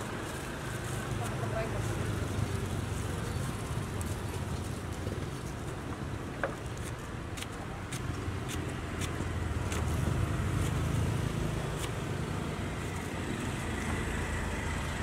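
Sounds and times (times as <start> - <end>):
passing traffic rumble: 0.0 - 6.4, 7.1 - 15.0.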